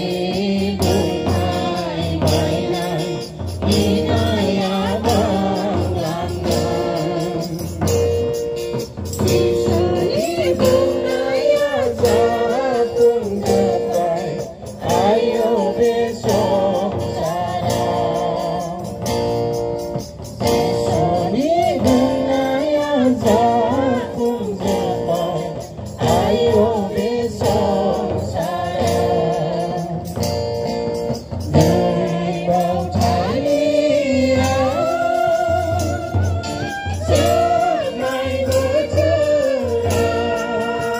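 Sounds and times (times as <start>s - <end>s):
women singing a hymn: 0.0s - 7.9s, 9.2s - 19.0s, 20.7s - 30.3s, 31.5s - 40.9s
hand drum beat: 0.0s - 40.9s.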